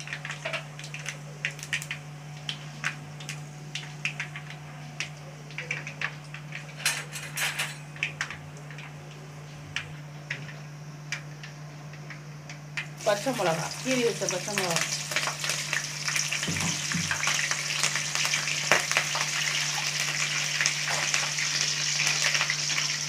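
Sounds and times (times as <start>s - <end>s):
seeds popping in hot oil: 0.0s - 6.8s, 7.9s - 23.0s.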